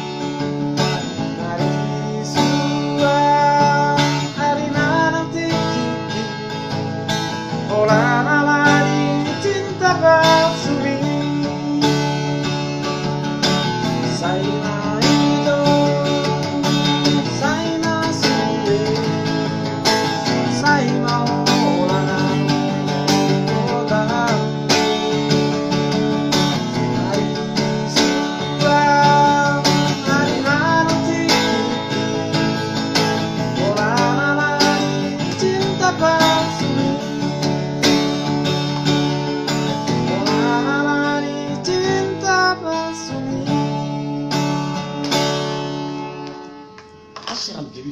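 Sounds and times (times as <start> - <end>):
strummed acoustic guitar: 0.0 - 47.9
man singing: 0.8 - 6.7, 7.5 - 13.0, 13.8 - 38.4, 39.5 - 44.3.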